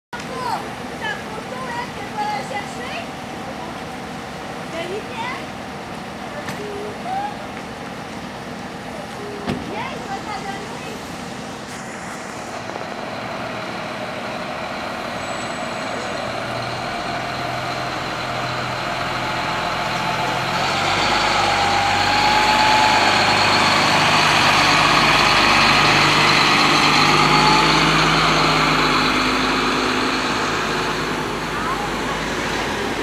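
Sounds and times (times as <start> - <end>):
fire engine driving past: 0.2 - 33.0.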